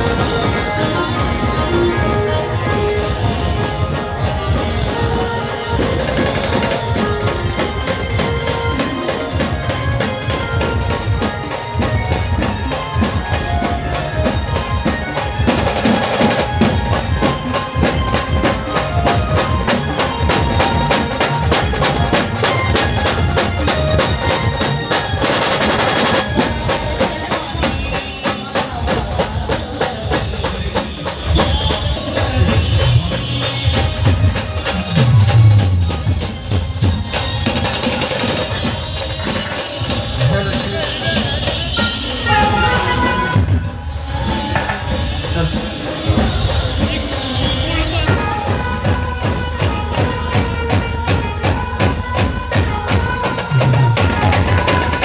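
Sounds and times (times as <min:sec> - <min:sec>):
loud procession band music: 0:00.0 - 0:55.0.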